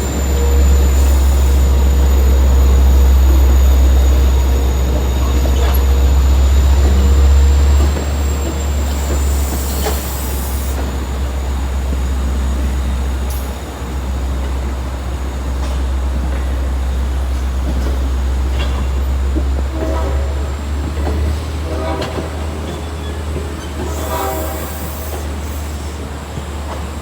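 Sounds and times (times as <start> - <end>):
train rumbling by: 0.0 - 27.0.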